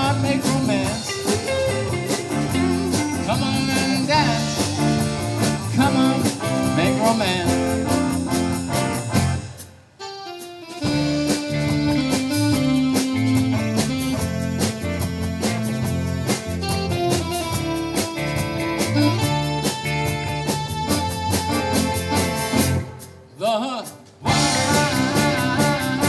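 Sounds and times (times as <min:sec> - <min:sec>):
steady drum beat: 0:00.0 - 0:09.9, 0:10.8 - 0:26.0
live band with guitar: 0:00.0 - 0:26.0.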